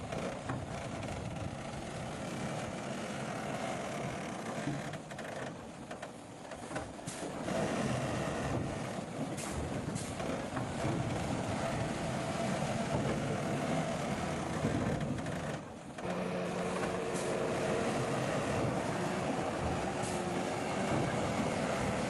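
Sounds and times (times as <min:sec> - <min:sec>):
diesel earthmoving machinery running: 0:00.0 - 0:22.0.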